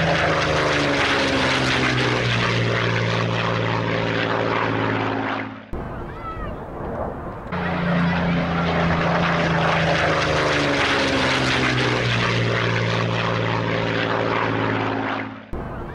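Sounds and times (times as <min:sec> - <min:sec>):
propeller aircraft engine running: 0:00.0 - 0:15.9.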